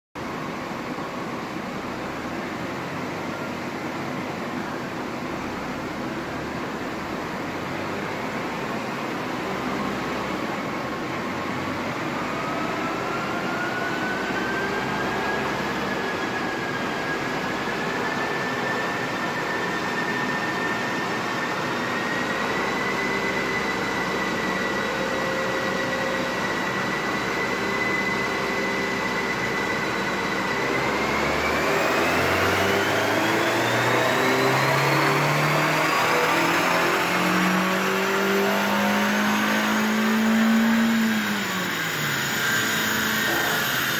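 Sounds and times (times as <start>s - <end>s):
car engine revving with whine: 0.2s - 43.9s.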